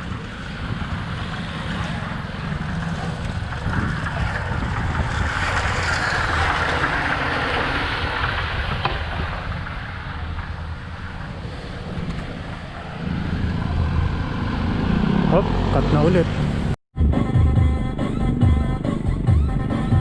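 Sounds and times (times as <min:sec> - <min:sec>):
wind rushing over microphone: 0:00.0 - 0:16.8
low rumble: 0:00.0 - 0:20.0.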